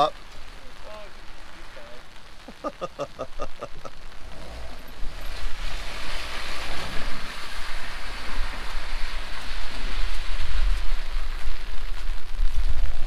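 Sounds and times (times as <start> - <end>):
car engine rumbling: 0.0 - 13.0
tyres churning through mud: 0.0 - 13.0.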